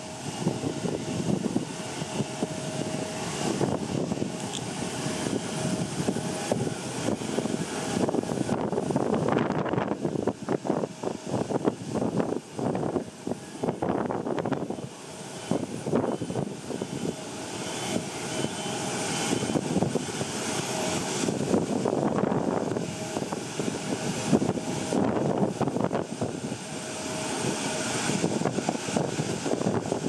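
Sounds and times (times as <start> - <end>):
jet engines whining: 0.0 - 30.0
wind noise on microphone: 0.0 - 30.0.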